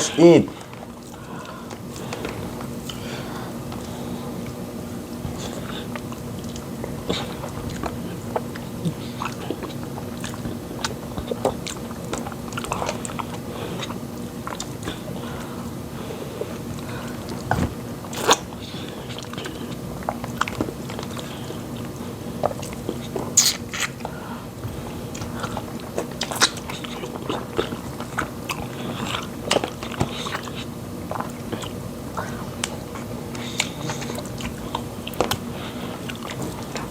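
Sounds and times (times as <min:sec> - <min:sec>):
people chewing: 0:00.0 - 0:36.9
steady low hum: 0:00.0 - 0:36.9.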